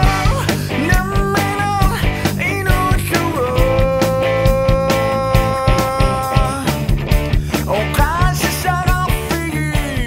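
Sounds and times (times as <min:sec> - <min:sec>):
rock music: 0:00.0 - 0:10.0.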